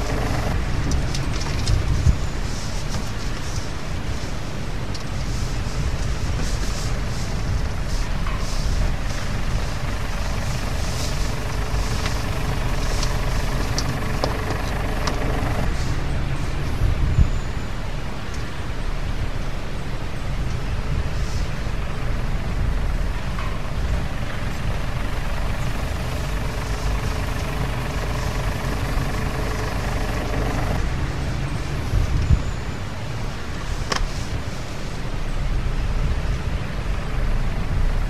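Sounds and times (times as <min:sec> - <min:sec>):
vehicle engine low rumble: 0:00.0 - 0:38.0.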